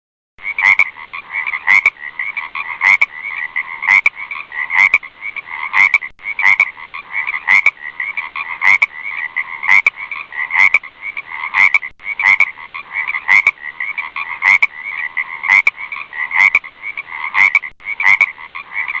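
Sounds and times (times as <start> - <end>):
chorus of frogs croaking: 0.4 - 19.0
loud sharp frog croaks: 0.4 - 19.0.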